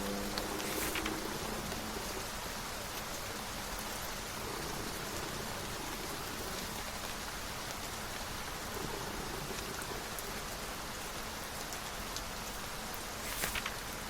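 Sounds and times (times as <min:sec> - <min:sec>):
faint raindrop ticks: 0:00.0 - 0:14.0
steady rain hissing: 0:00.0 - 0:14.0.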